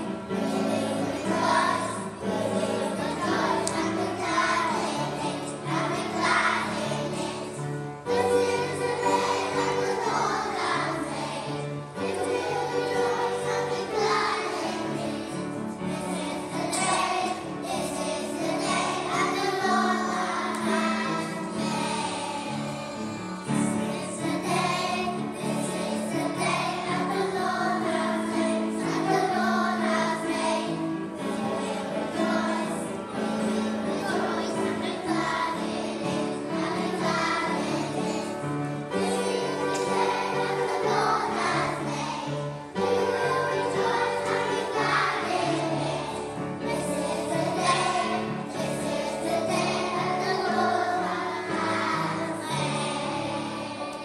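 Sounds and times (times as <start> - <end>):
children singing: 0.0 - 54.0
instrumental backing music: 0.0 - 54.0.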